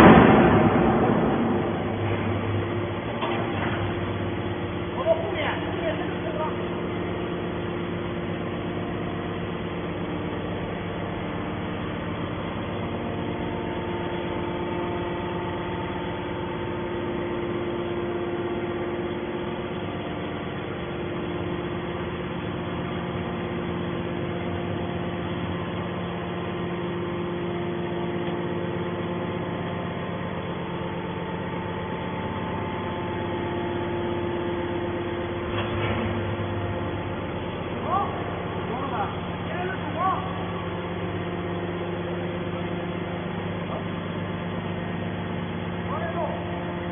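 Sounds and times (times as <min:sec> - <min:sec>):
hydraulic baler humming: 0:00.0 - 0:46.9.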